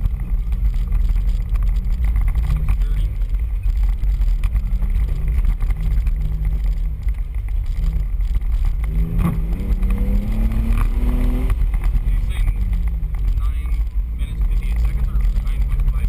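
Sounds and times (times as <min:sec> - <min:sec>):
off-road vehicle engine rumbling: 0:00.0 - 0:16.0.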